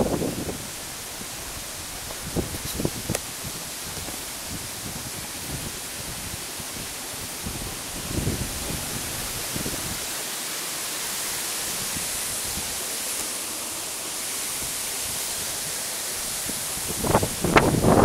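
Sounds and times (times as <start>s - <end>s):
wind noise on microphone: 0.0s - 10.2s, 11.6s - 12.8s, 14.5s - 18.0s
steady background hiss: 0.0s - 18.0s.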